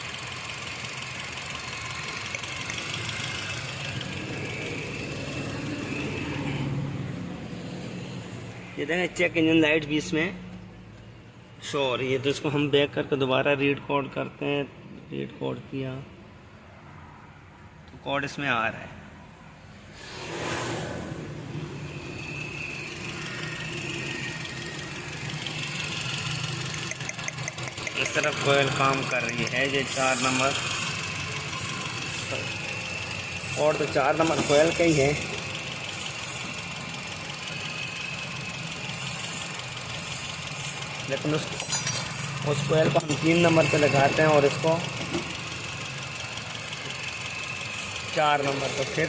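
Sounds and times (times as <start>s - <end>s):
car engine idling unevenly: 0.0s - 12.9s, 21.5s - 49.0s.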